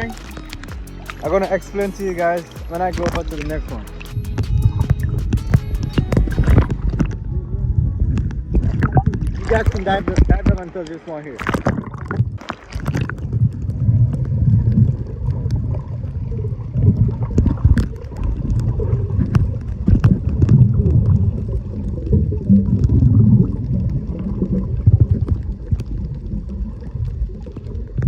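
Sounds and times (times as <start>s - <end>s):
underwater clicks and crackles: 0.0s - 28.0s
underwater rumble of moving water: 0.0s - 28.0s.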